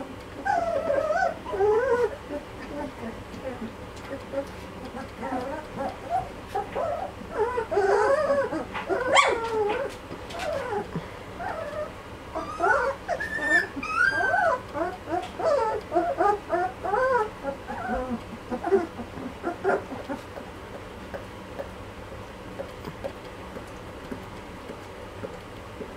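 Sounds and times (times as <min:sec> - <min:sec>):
puppies whimpering and squeaking: 0:00.0 - 0:20.9.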